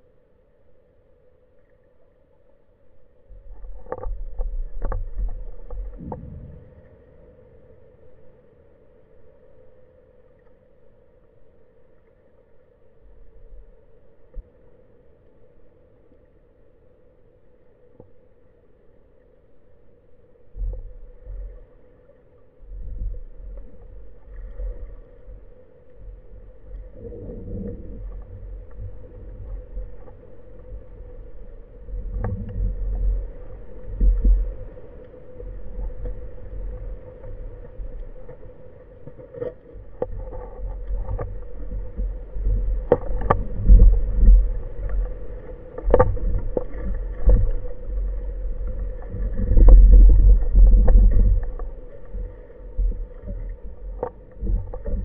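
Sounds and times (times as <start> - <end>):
faint hum: 0.0 - 55.0
underwater rumble of water: 0.0 - 55.0.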